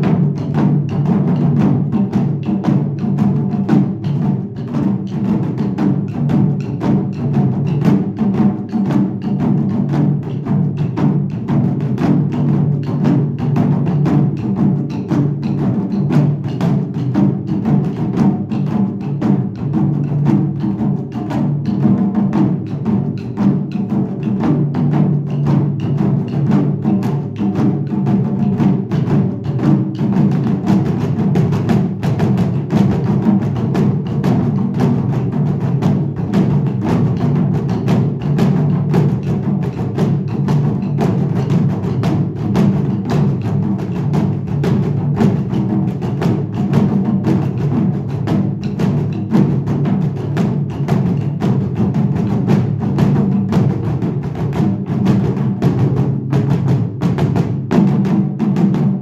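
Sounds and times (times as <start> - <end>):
taiko drums playing fast: 0.0 - 59.0.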